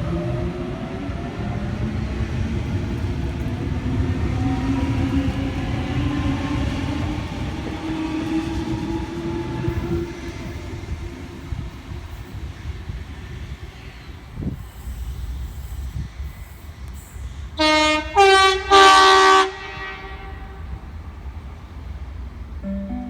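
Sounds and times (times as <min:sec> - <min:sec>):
electric train low rumble: 0:00.0 - 0:23.0.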